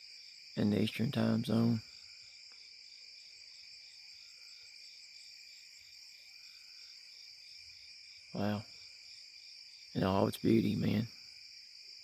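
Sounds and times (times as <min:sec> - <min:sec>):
insects trilling: 0:00.0 - 0:12.0
pulsed insect chirping: 0:00.0 - 0:12.0.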